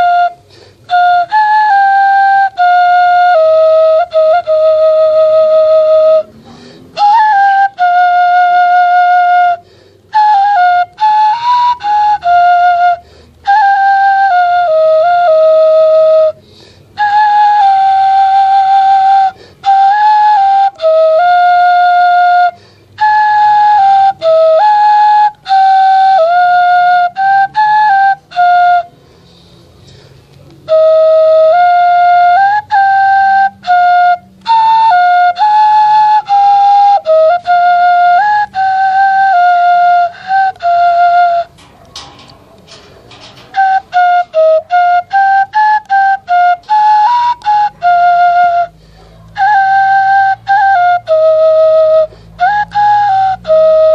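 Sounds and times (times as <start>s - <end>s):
bamboo flute melody: 0.0s - 53.9s.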